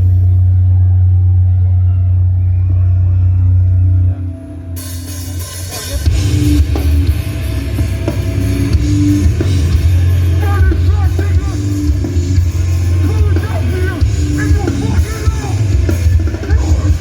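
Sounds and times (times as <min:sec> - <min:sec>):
low bass drone: 0:00.0 - 0:17.0
metal band playing live: 0:00.0 - 0:17.0.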